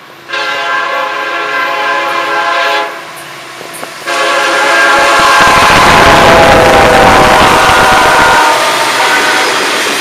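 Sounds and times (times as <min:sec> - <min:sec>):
locomotive air horn blasts: 0:00.3 - 0:03.1, 0:04.0 - 0:09.8.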